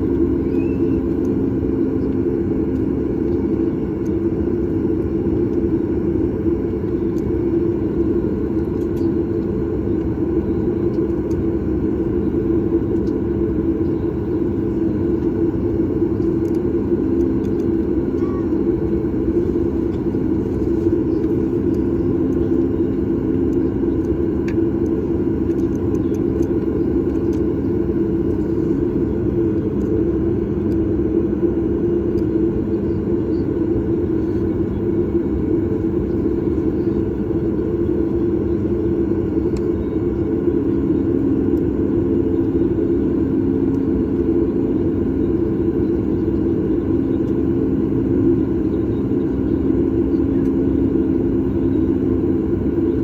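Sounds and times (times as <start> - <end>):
airplane cabin engine hum: 0.0 - 53.0.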